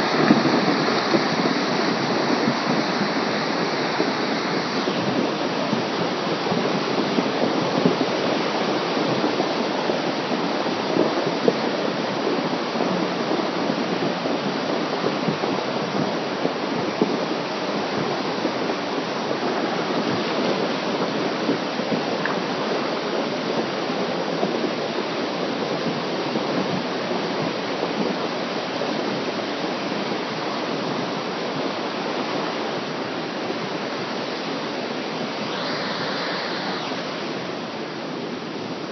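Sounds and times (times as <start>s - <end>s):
river rushing loudly: 0.0s - 38.9s.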